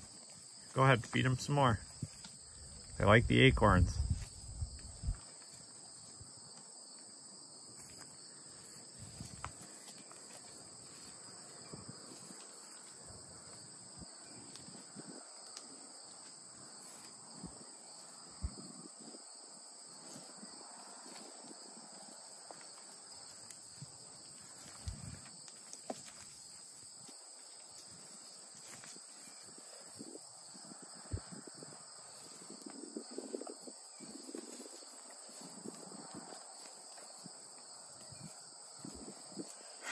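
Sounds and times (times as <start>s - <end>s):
soft rustles in grass: 0.0s - 2.9s, 4.0s - 7.0s, 7.7s - 39.9s
insects chorus: 0.0s - 39.9s.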